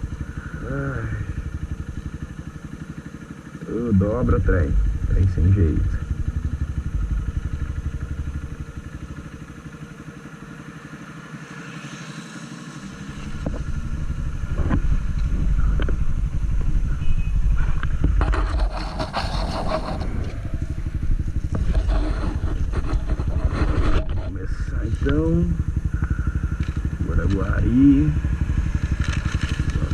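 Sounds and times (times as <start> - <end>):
noisy rattling: 0.0 - 10.8, 12.9 - 29.9
motorcycle engine running: 0.0 - 29.9.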